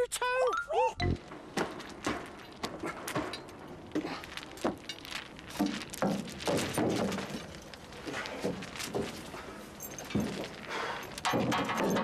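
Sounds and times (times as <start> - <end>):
clattering knocks and clinks: 1.2 - 12.0.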